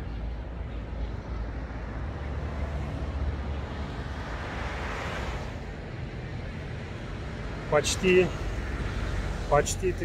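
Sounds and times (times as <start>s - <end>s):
distant traffic: 0.0s - 10.0s.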